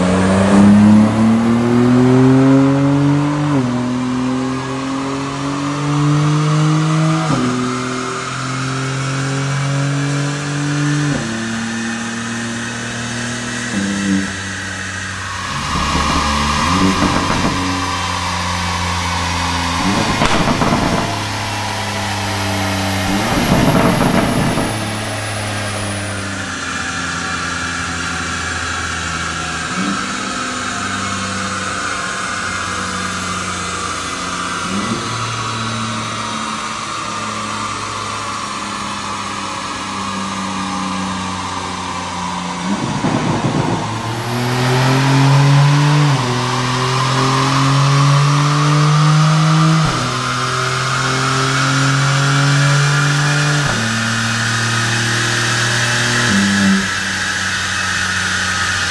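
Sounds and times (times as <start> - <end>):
car engine on dyno: 0.0 - 58.9
high turbo whine: 0.0 - 58.9.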